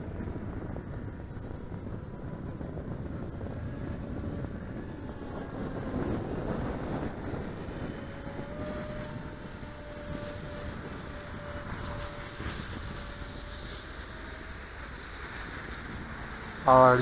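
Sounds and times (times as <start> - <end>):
model plane motor droning: 0.0 - 17.0
wind rumbling on microphone: 0.0 - 17.0.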